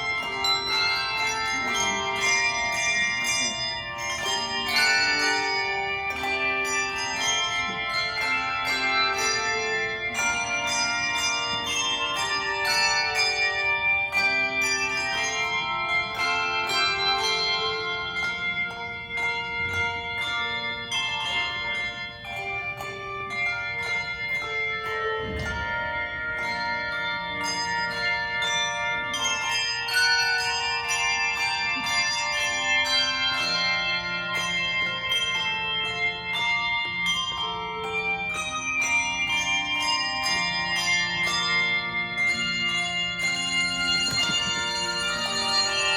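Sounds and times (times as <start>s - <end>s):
handbell choir playing: 0.0s - 45.9s.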